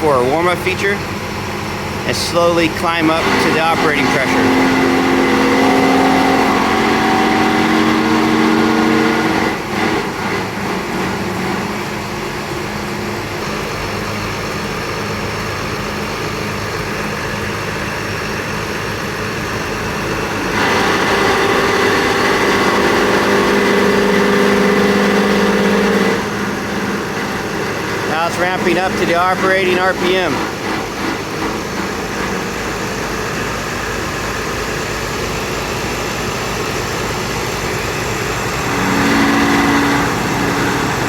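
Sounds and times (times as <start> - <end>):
pump engine running: 0.0 - 41.0.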